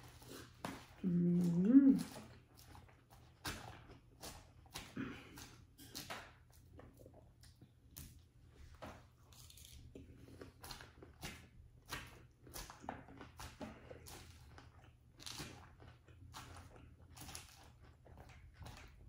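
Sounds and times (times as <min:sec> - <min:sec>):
chewing crunchy lettuce: 0:00.0 - 0:19.0.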